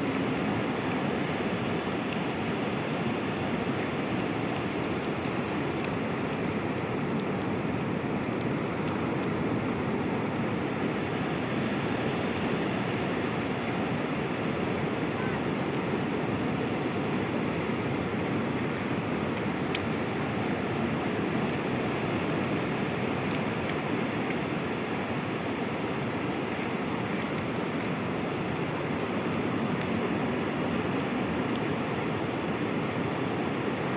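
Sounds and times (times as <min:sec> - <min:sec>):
waves breaking: 0:00.0 - 0:33.9.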